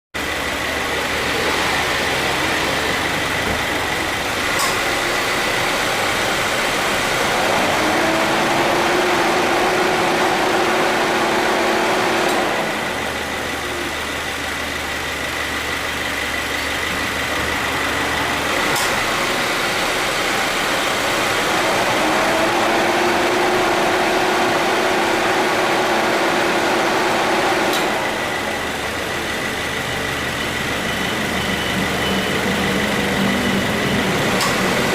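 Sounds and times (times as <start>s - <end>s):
car engine idling: 0.2s - 34.9s
compressor hum: 0.2s - 34.9s.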